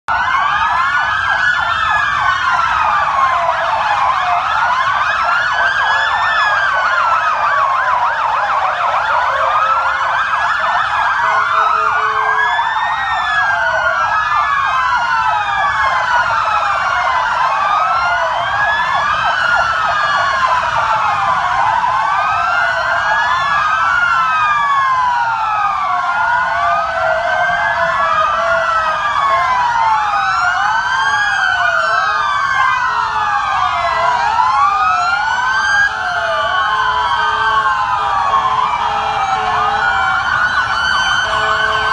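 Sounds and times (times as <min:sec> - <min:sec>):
police sirens wailing: 0:00.1 - 0:41.9.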